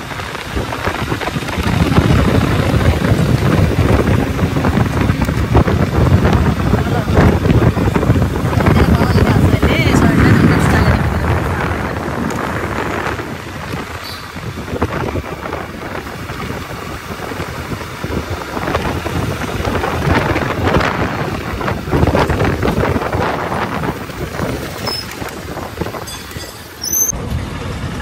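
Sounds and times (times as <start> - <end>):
motorcycle and road noise: 0.0 - 28.0
wind buffeting microphone: 0.0 - 28.0.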